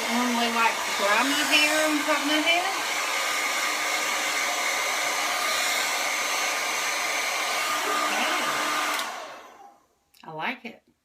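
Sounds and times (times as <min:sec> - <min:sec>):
hair dryer blowing air: 0:00.0 - 0:10.0.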